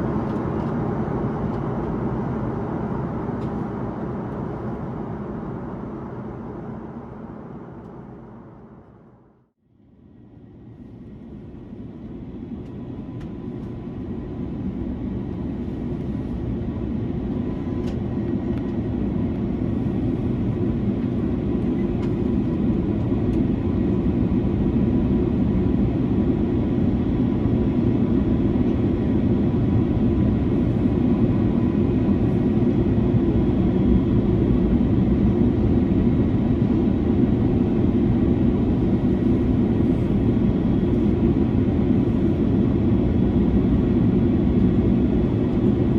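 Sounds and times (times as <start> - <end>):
airflow and jet engine rush: 0.0 - 45.9.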